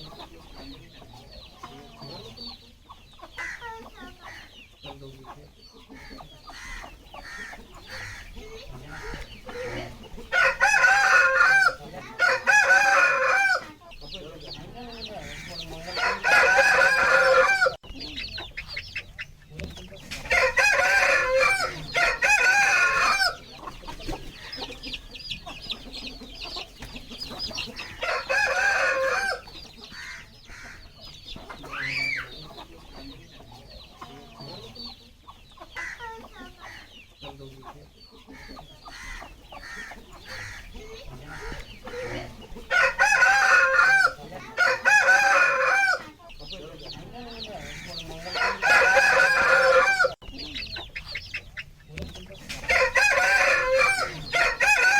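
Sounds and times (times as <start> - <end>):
chickens clucking and chirping: 0.0 - 54.9
roosters crowing: 3.2 - 19.1, 19.9 - 32.8, 35.7 - 37.4, 38.3 - 51.3, 52.2 - 54.9.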